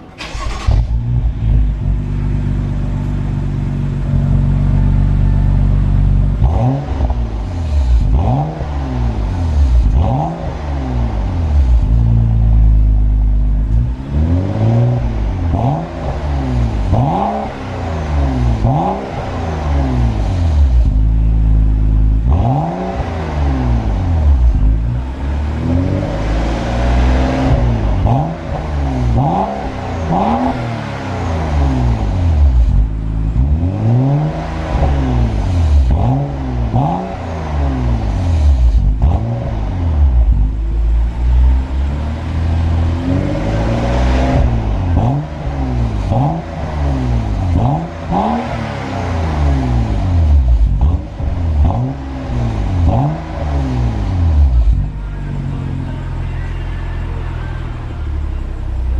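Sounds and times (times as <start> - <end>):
car engine idling: 0.0 - 58.9
car engine revving: 0.0 - 58.9.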